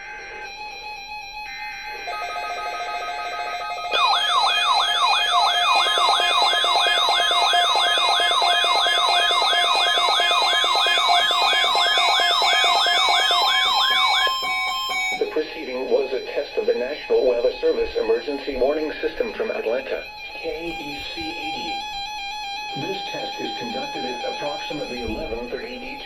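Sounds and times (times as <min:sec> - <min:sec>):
sweeping warning alarm tone: 0:00.0 - 0:26.0.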